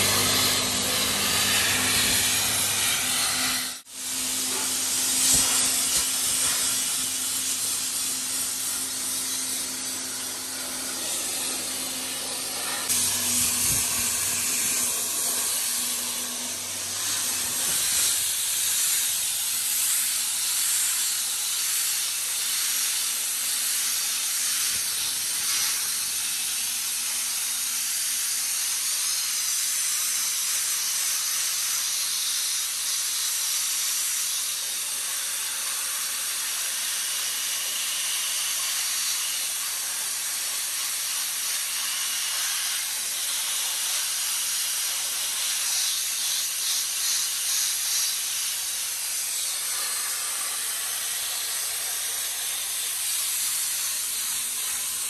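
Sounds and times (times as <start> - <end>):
abrasive water blaster hissing: 0.0 - 55.0.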